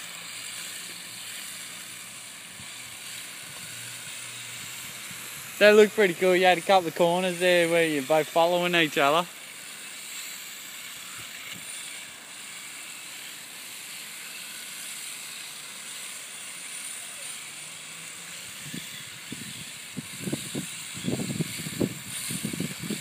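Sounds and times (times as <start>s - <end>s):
rc cars sliding on asphalt: 0.0s - 23.0s.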